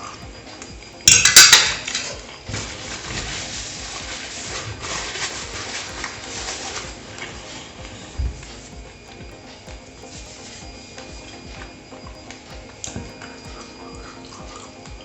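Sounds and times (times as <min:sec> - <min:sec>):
scraping and rustling: 0:00.0 - 0:14.8.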